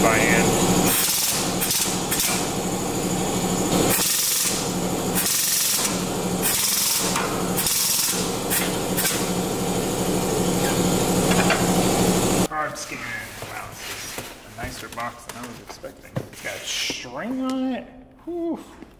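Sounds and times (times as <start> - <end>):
steady mechanical hum: 0.0 - 17.4.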